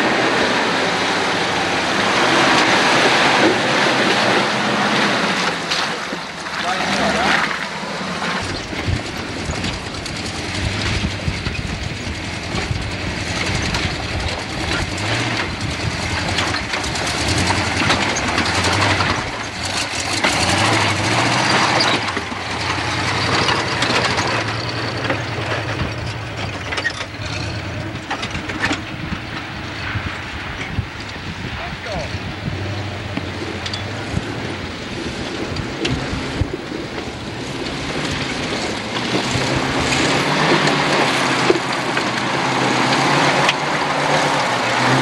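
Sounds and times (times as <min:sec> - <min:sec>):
engine running at low speed: 0:00.0 - 0:45.0
rock crunching under tyres: 0:02.1 - 0:45.0.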